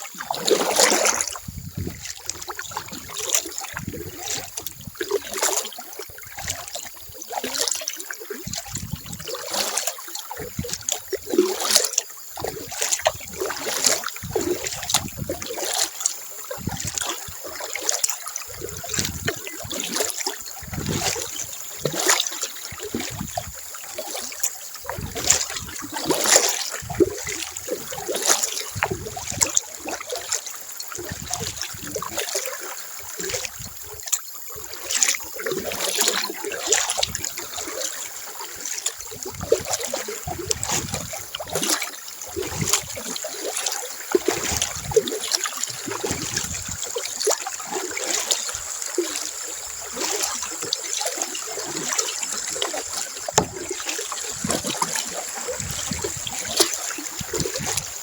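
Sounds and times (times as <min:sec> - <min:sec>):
paddle dipping into water: 0:00.0 - 0:58.0
water splashing off paddle: 0:00.0 - 0:58.0.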